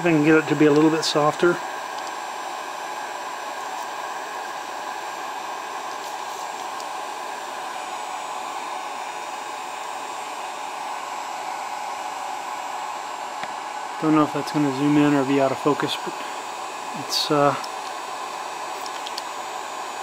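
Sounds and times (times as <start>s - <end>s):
heat gun blowing air: 0.0s - 20.0s.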